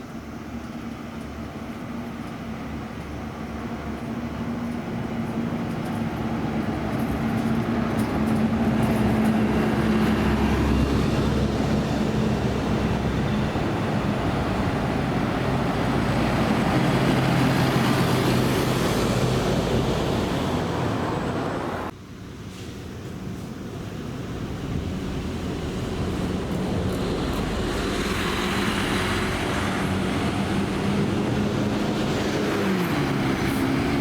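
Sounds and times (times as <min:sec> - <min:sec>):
bus diesel engine running: 0:00.0 - 0:34.0
road and tyre noise: 0:00.0 - 0:34.0.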